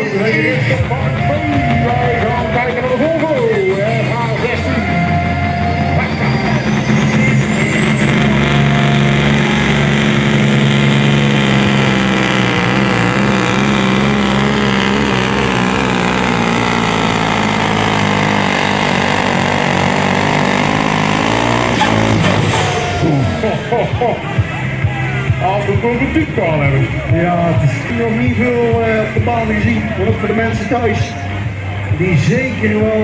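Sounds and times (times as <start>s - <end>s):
high whine: 0.0s - 31.8s
diesel truck engine under load: 0.0s - 33.0s.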